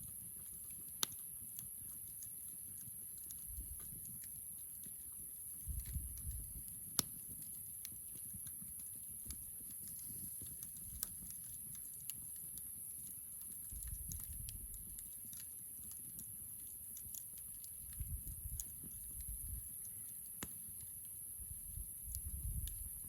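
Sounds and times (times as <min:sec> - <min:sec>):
campfire crackling: 0:00.0 - 0:23.0
fire pops and snaps: 0:00.0 - 0:23.0.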